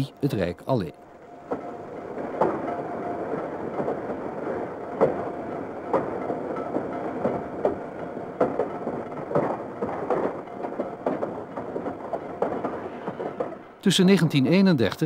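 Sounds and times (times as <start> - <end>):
tram running rumble: 0.0 - 15.0
wheels knocking and rattling: 1.0 - 15.0.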